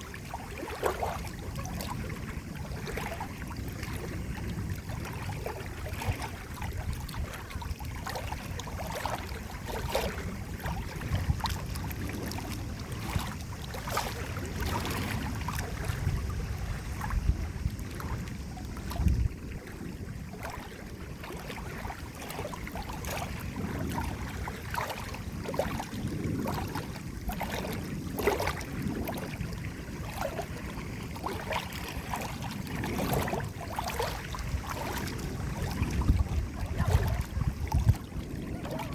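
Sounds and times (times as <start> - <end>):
water splashing and gurgling: 0.0 - 38.9.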